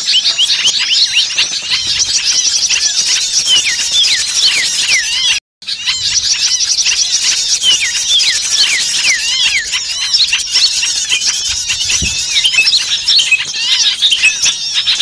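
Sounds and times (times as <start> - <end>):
chorus of small birds: 0.0 - 15.0.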